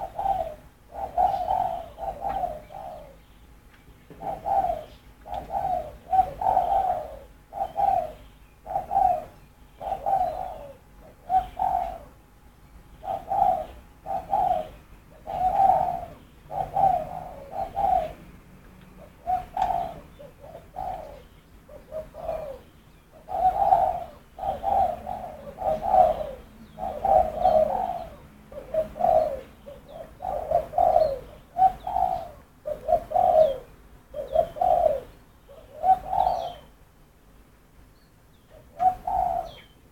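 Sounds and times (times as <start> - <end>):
dove cooing: 0.0 - 12.3, 12.9 - 36.8, 38.5 - 39.9.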